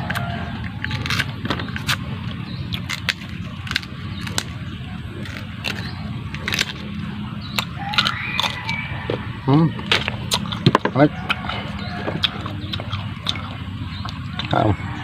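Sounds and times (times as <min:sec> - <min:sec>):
person chewing crisp food: 0:00.0 - 0:15.0
steady low hum: 0:00.0 - 0:15.0.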